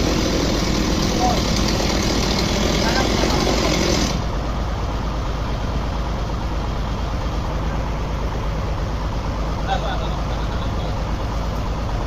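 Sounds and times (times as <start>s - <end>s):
heavy machinery engine rumbling: 0.0s - 12.0s.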